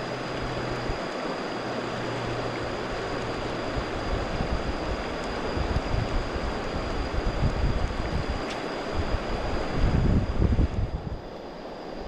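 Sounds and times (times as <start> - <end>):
flowing water rushing: 0.0 - 10.4
wind rumbling on microphone: 0.0 - 12.0.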